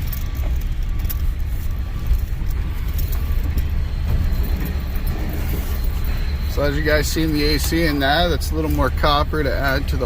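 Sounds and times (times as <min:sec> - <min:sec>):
pickup truck driving: 0:00.0 - 0:10.0.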